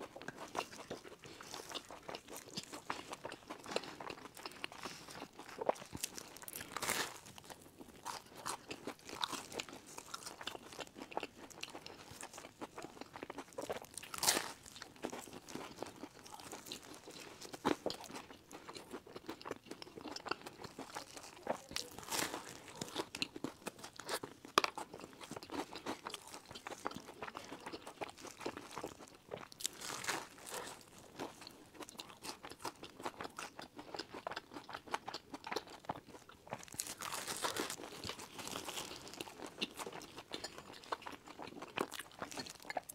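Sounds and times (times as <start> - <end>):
crisp crunch of biting buns: 0.0 - 42.9
soft chewing crunches: 0.0 - 42.9.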